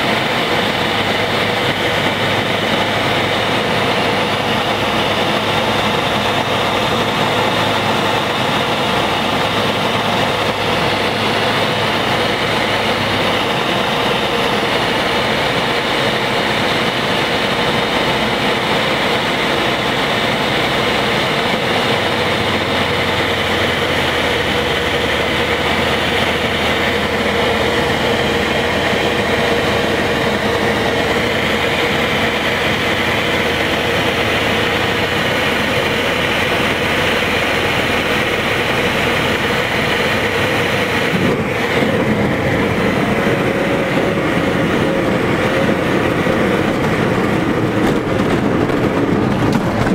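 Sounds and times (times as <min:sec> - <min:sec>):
propeller aircraft engine droning: 0:00.0 - 0:49.9
wind noise: 0:00.0 - 0:49.9.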